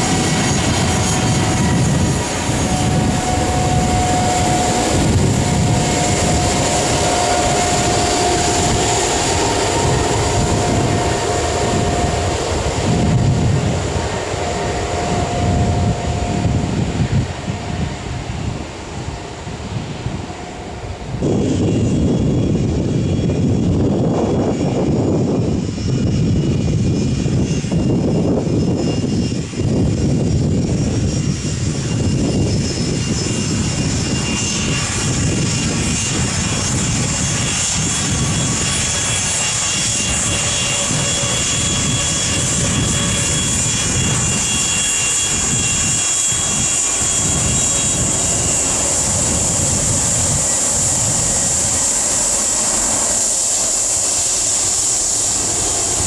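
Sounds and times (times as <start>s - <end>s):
high-pitched engine whine: 0.0s - 56.0s
jet engines at taxi power: 0.0s - 56.0s.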